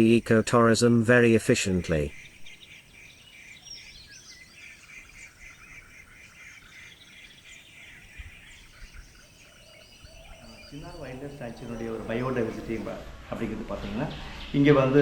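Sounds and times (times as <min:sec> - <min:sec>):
background hiss: 0:00.0 - 0:15.0
small birds chirping: 0:00.0 - 0:15.0.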